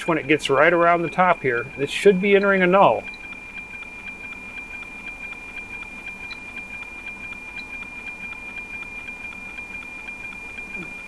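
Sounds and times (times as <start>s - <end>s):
regular tick-tock: 0.0s - 11.0s
steady high tone: 0.0s - 11.0s.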